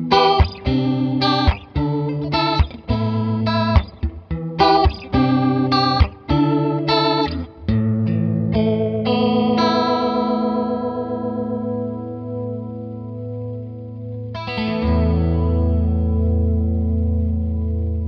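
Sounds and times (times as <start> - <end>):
warbling electric guitar chords: 0.0 - 18.0.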